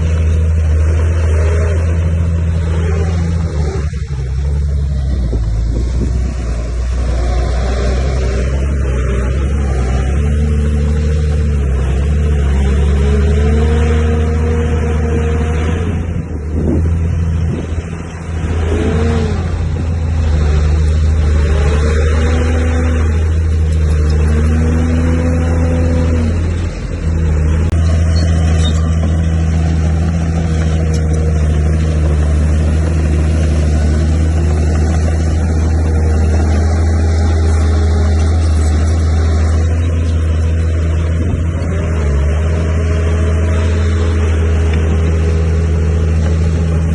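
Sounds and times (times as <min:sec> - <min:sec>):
heavy diesel engine under load: 0:00.0 - 0:46.9.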